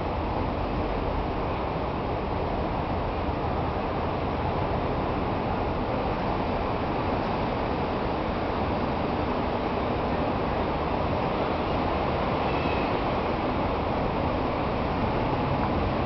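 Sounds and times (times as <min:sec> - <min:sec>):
outdoor rumble with hiss: 0:00.0 - 0:16.0.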